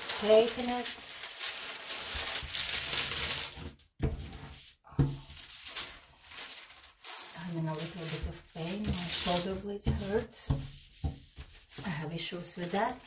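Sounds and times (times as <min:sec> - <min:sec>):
plastic film crinkling: 0:00.0 - 0:13.0.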